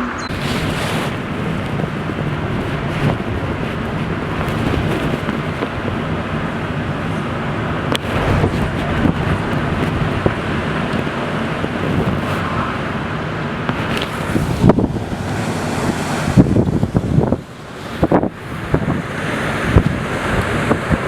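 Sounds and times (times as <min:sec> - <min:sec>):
strong wind rushing: 0:00.0 - 0:21.0
wind buffeting microphone: 0:00.0 - 0:21.0.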